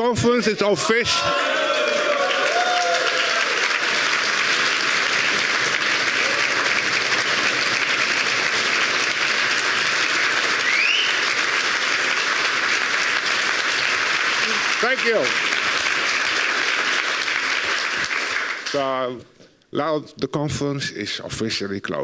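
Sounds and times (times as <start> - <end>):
audience applauding: 1.0 - 19.2.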